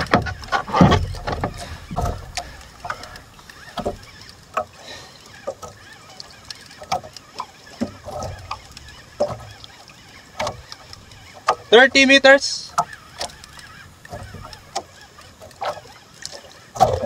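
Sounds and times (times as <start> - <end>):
water slapping hull: 0.0 - 17.0.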